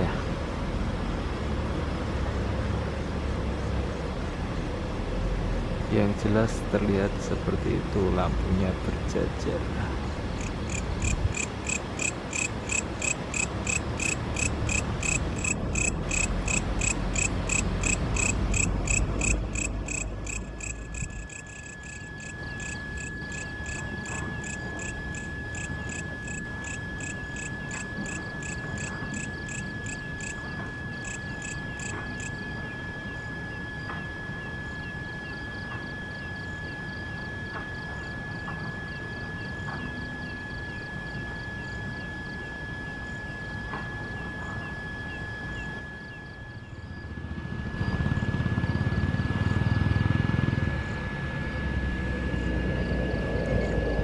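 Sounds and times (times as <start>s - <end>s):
insects chirping: 9.5s - 54.0s
high insect trill: 10.2s - 54.0s.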